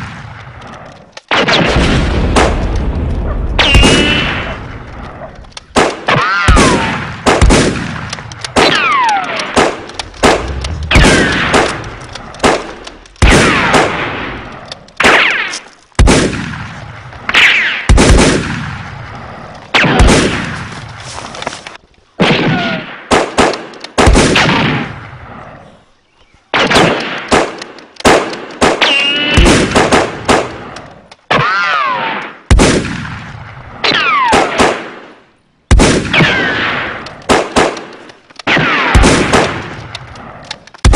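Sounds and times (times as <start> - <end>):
gunshots with ringing tail: 0.0 - 20.7, 22.2 - 25.6, 26.5 - 40.9.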